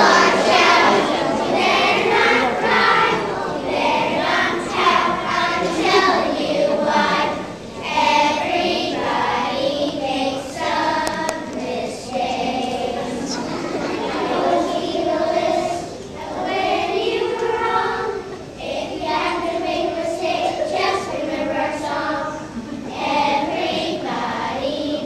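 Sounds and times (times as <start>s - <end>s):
children's choir singing: 0.0s - 25.0s.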